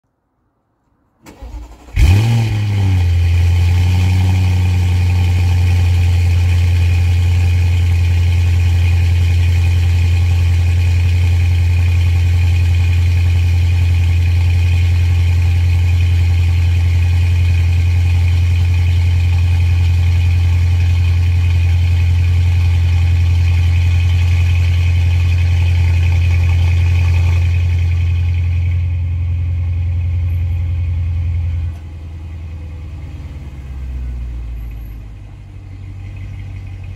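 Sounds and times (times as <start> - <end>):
car engine starting and idling: 1.2 - 36.9.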